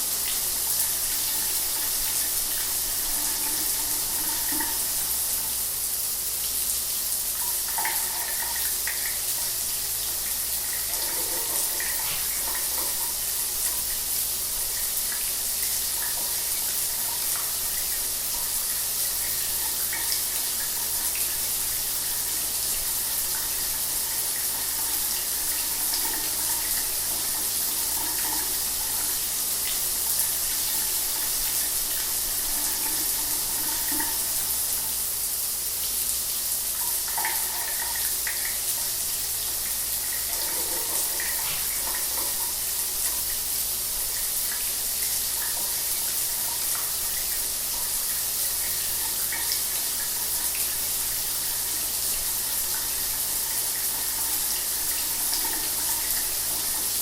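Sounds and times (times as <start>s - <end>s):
shower water running: 0.0s - 57.0s.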